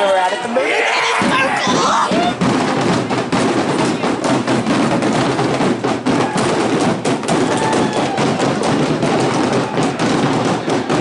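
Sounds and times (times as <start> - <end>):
crowd din: 0.0 - 11.0
firecrackers banging: 1.2 - 11.0.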